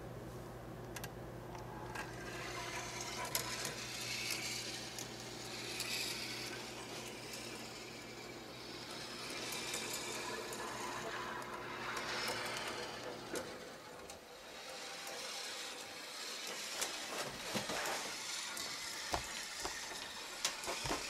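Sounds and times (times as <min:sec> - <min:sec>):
marble rolling on plastic track: 0:01.9 - 0:21.0.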